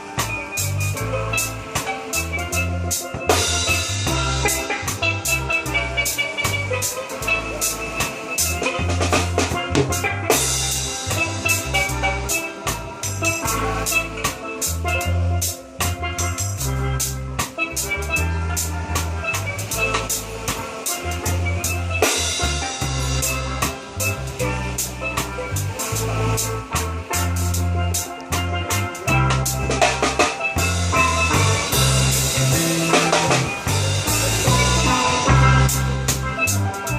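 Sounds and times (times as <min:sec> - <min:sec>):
deep bass notes: 0:00.0 - 0:36.9
drum beat: 0:00.0 - 0:36.9
steel drums melody: 0:00.0 - 0:36.9.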